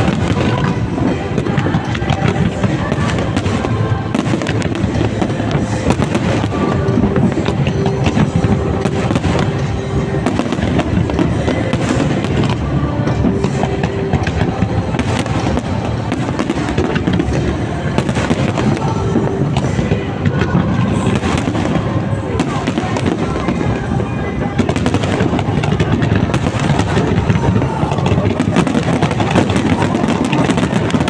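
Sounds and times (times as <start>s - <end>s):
fireworks cracks and bangs: 0.0s - 31.0s
fireworks rumble: 0.0s - 31.0s
music playing: 0.0s - 31.0s.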